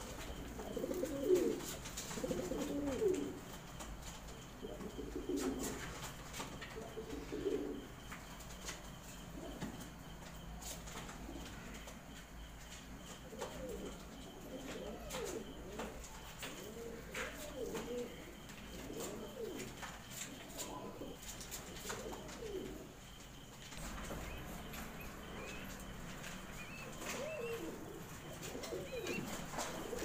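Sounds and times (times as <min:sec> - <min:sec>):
pigeons cooing: 0:00.0 - 0:12.1, 0:12.9 - 0:30.0.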